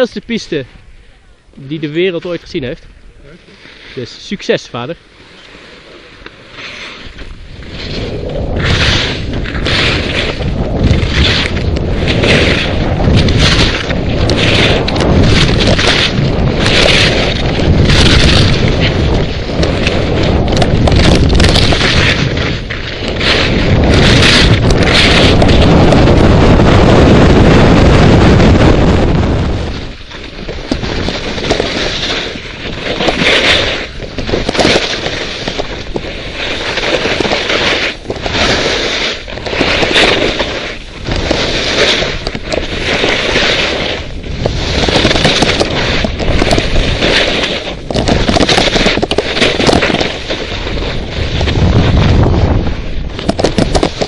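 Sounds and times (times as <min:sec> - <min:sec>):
skis scraping across snow: 0:01.6 - 0:54.0
wind buffeting microphone: 0:07.0 - 0:54.0.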